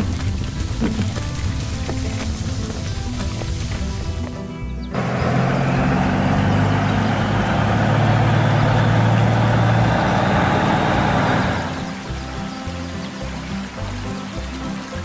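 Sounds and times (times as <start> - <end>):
heavy truck engine running: 0.0 - 14.6.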